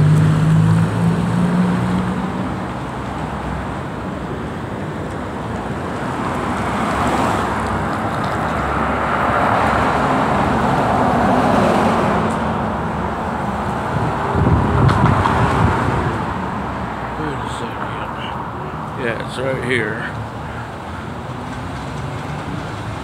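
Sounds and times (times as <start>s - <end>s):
cars passing on road: 0.0s - 23.0s.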